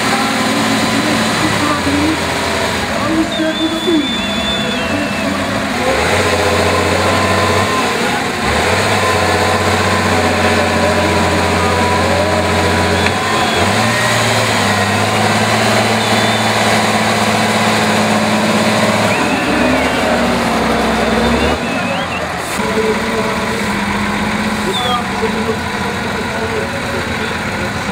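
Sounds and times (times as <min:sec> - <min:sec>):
diesel truck engine revving: 0:00.0 - 0:27.9.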